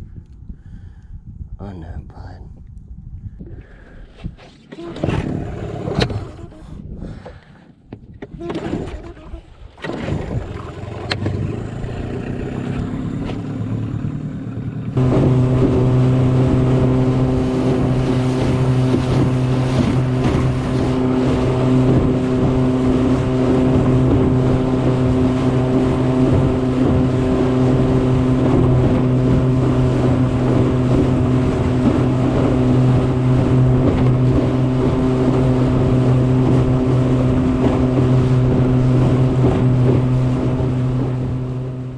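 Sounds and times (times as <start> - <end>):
outboard motor running: 4.0 - 41.9.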